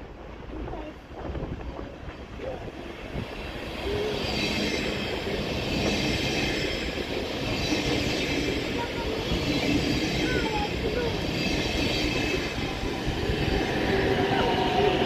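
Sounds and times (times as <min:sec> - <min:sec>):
train rumbling past: 0:00.0 - 0:15.0
wheels squealing on rails: 0:02.4 - 0:15.0.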